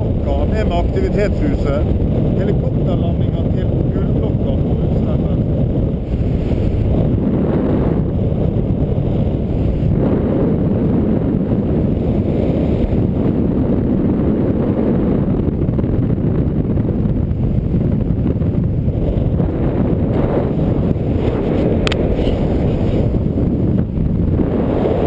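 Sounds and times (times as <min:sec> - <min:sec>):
wind rumbling over microphone: 0:00.0 - 0:25.0.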